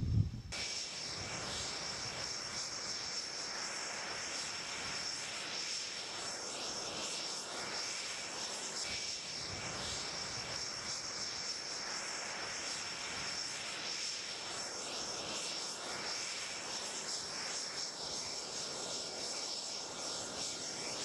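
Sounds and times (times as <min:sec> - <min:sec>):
jet engine whine and rush: 0:00.0 - 0:21.0.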